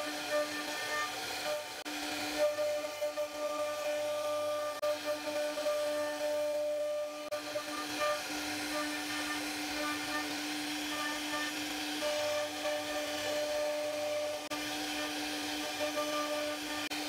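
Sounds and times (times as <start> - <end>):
bit cutting wood hiss: 0.0 - 17.0
router spindle high whine: 0.0 - 17.0.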